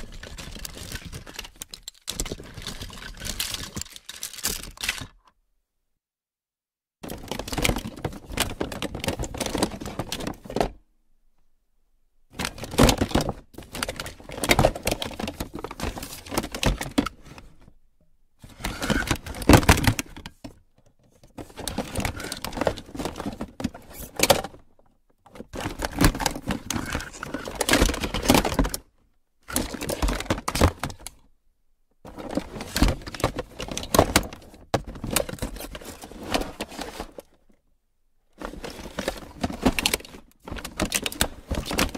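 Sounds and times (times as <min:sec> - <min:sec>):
plastic toys rattling in a box: 0:00.0 - 0:05.3, 0:07.0 - 0:10.8, 0:12.3 - 0:17.6, 0:18.4 - 0:20.6, 0:21.3 - 0:24.7, 0:25.3 - 0:31.2, 0:32.1 - 0:37.6, 0:38.4 - 0:41.9.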